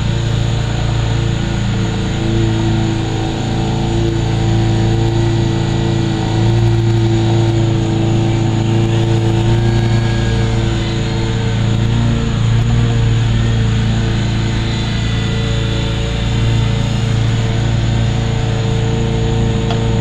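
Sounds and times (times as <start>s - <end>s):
toy helicopter rotor whirring: 0.0s - 20.0s.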